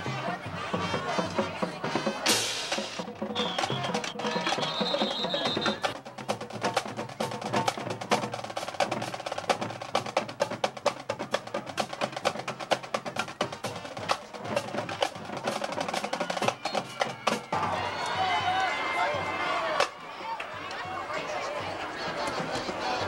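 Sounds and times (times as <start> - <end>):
drumline percussion cadence: 0.0 - 23.0.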